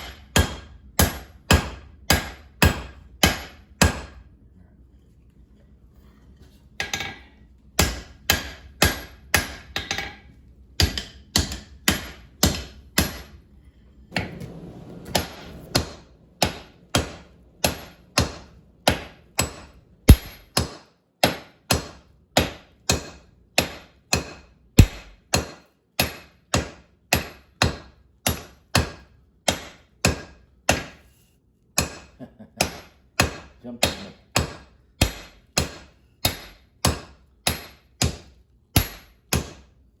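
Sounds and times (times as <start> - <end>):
hammer striking hot steel: 0.0 - 4.2, 7.8 - 10.2, 10.8 - 13.4, 15.1 - 31.0, 31.8 - 39.6.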